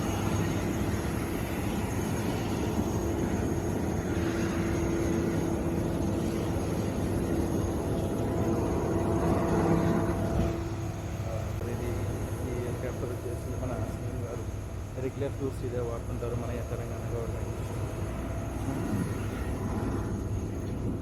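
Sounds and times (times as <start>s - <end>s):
aircraft engine drone: 0.0s - 21.0s.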